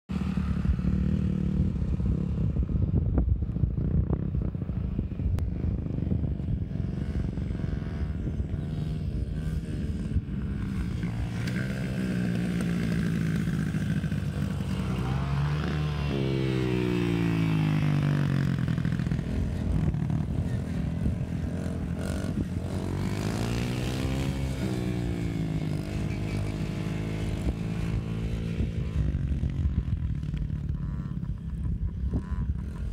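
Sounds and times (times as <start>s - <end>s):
dirt bike engines running: 0.1s - 32.9s
dirt bike engine revving: 5.4s - 32.9s.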